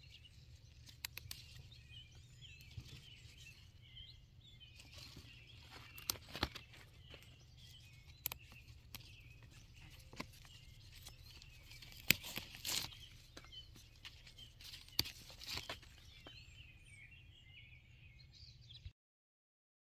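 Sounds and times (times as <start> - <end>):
faint bird chirps: 0.0 - 18.9.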